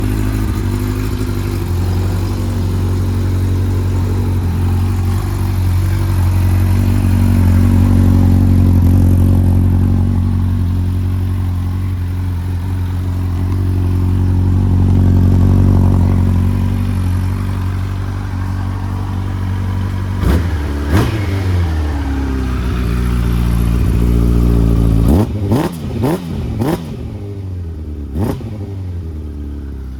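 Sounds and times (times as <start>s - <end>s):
motorcycle engine idling: 0.0s - 29.9s
motorcycle engine revs: 0.0s - 29.9s.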